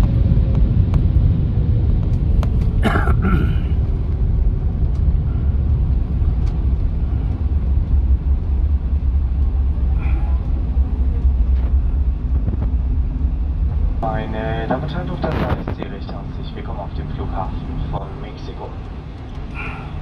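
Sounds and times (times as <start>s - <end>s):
aircraft cabin rumble: 0.0s - 20.0s.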